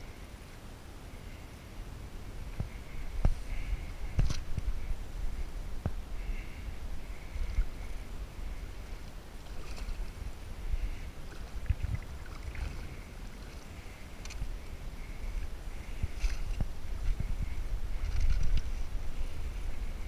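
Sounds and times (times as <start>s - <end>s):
wind rumble on microphone: 1.9s - 20.0s.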